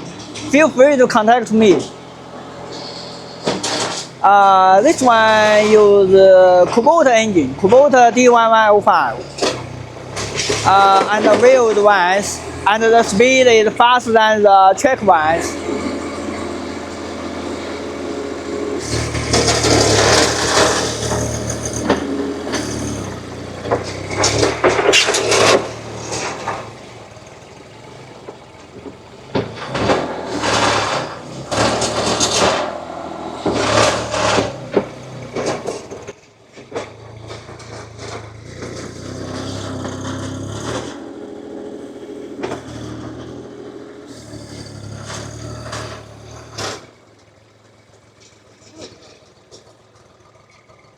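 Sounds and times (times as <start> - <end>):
diesel engine working under load: 0.0 - 50.9.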